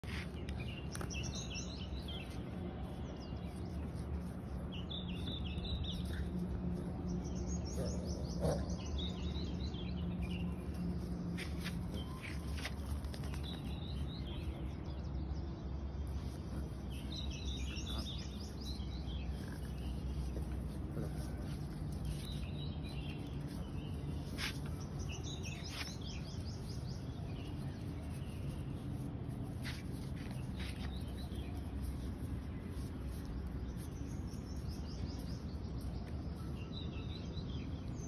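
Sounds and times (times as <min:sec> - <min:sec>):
small birds twittering: 0:00.0 - 0:38.0.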